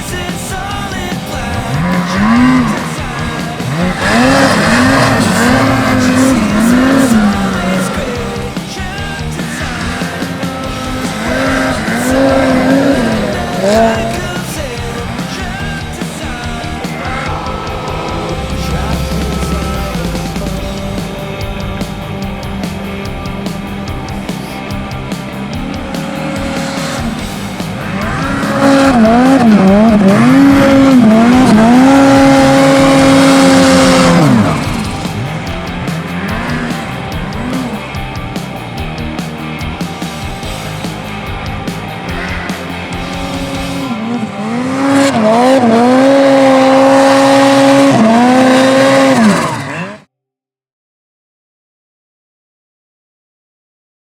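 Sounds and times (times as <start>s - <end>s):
snowmobile engine revving: 0.0s - 50.1s.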